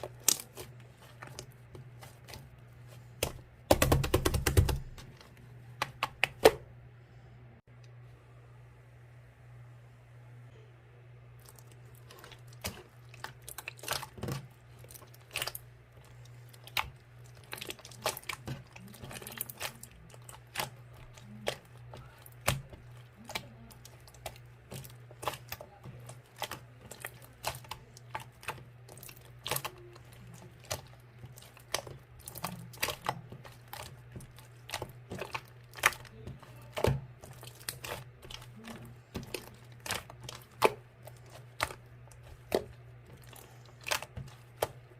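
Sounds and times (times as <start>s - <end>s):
slime squishing by hand: 0.0s - 6.8s, 11.4s - 44.9s
steady low hum: 0.0s - 44.9s.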